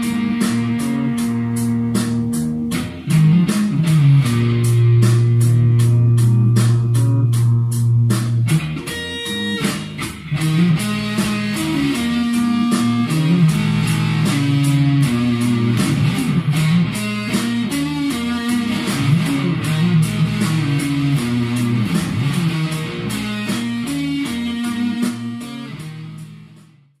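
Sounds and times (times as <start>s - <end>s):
steady drum beat: 0.0s - 26.8s
electric guitar blues-rock riff: 0.0s - 26.9s.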